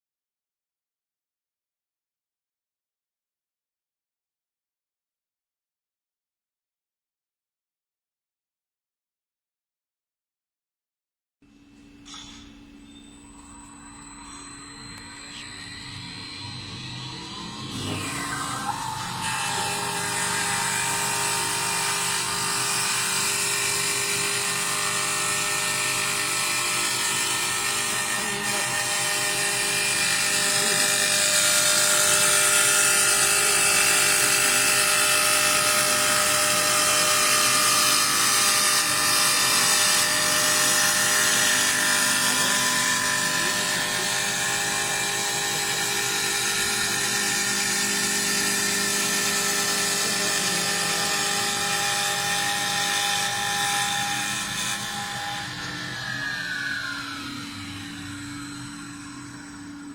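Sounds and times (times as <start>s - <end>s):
lathe motor whine: 11.6s - 59.9s.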